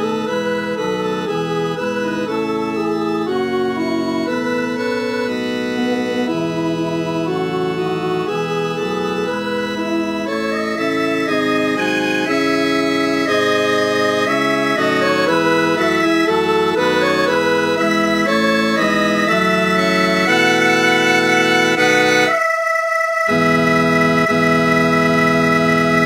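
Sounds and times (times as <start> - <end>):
synthesized organ choir chords: 0.0 - 26.0.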